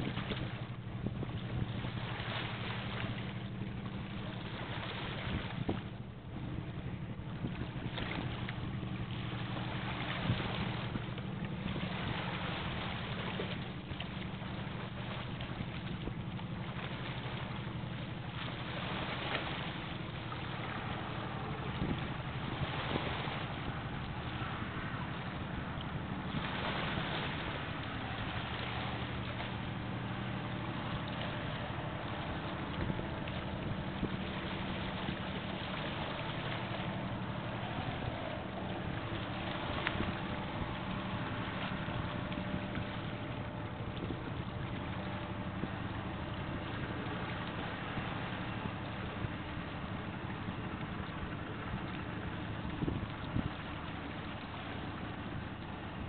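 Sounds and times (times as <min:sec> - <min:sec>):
wind noise on microphone: 0:00.0 - 0:17.9, 0:18.6 - 0:56.0
diesel engine drone: 0:00.0 - 0:56.0.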